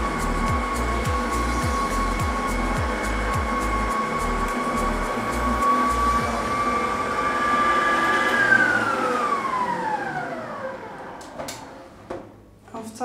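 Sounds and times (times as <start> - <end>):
stand mixer motor whining: 0.0 - 12.0.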